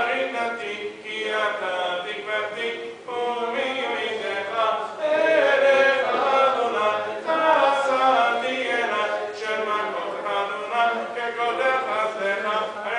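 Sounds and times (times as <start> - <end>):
men chanting prayers: 0.0 - 12.9.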